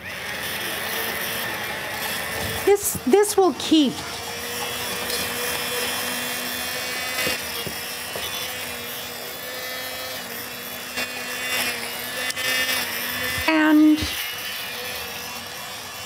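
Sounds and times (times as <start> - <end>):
stick blender motor whine: 0.0 - 16.0.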